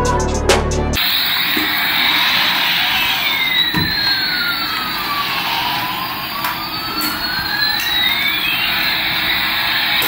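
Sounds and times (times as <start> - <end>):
toy jet engine sound effect: 1.0 - 10.0.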